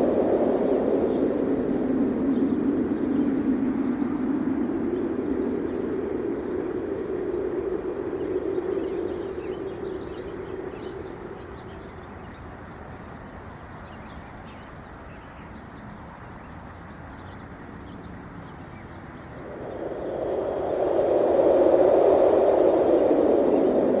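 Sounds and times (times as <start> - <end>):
faint bird chirps: 0.0 - 24.0
wind blowing: 0.0 - 24.0.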